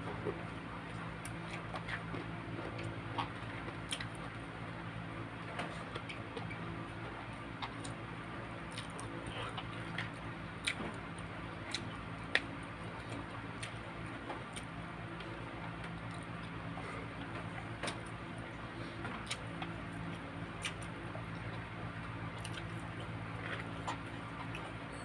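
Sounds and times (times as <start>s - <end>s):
steady low hum: 0.0s - 25.0s
wet chewing sounds: 0.0s - 25.0s.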